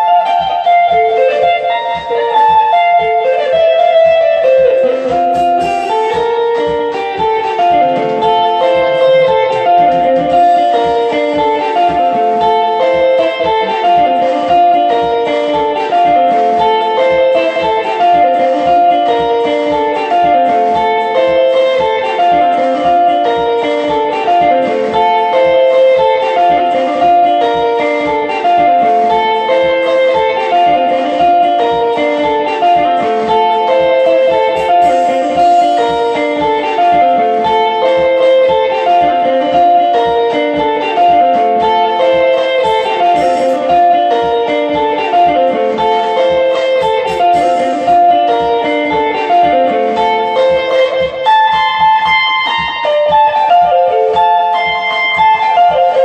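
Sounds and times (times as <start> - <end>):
electric guitar picking fast lead: 0.0 - 56.0.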